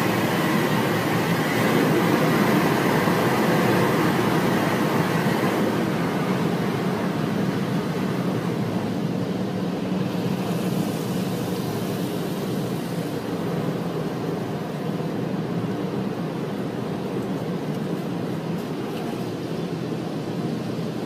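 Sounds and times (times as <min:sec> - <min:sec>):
car wash equipment humming: 0:00.0 - 0:21.0
rushing noise: 0:00.0 - 0:21.0.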